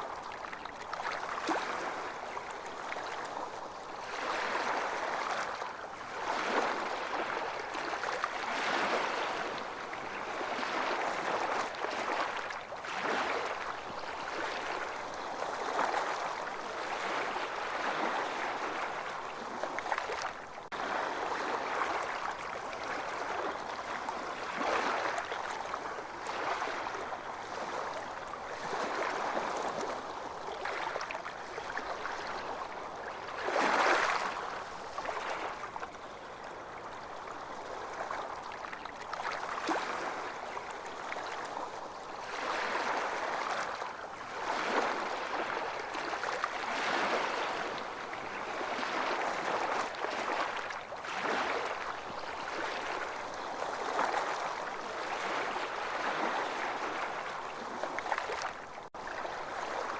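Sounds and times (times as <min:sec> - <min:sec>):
ocean waves washing on beach: 0:00.0 - 0:59.9.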